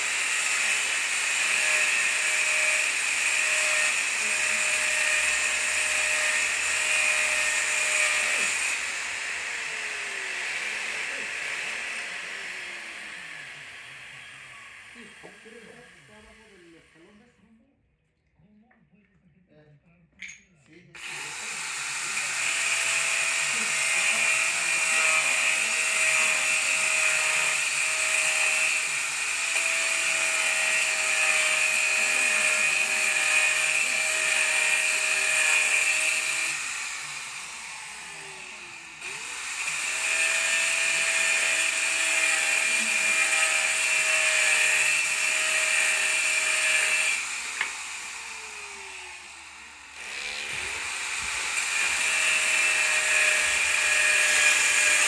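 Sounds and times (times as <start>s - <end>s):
power tool motor whine: 0.0s - 17.2s, 21.0s - 55.0s.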